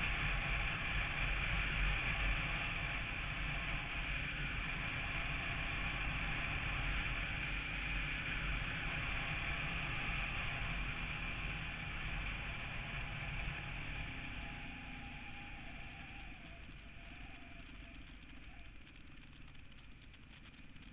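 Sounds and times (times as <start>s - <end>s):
wind and road noise: 0.0s - 20.9s.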